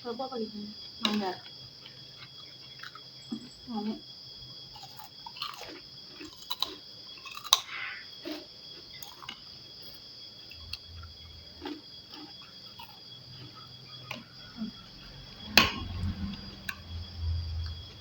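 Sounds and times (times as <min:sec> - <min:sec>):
chewing and crunching food: 0:00.7 - 0:18.0.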